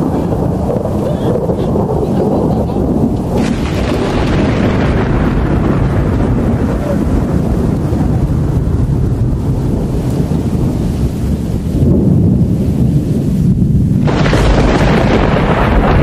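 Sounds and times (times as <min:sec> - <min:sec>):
rain-like hiss: 0:00.0 - 0:16.0
thunder rumbling: 0:00.0 - 0:16.0.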